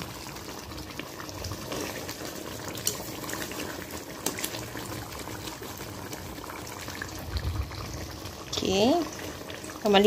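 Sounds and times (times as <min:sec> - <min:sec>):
gravy bubbling in a pot: 0:00.0 - 0:10.0.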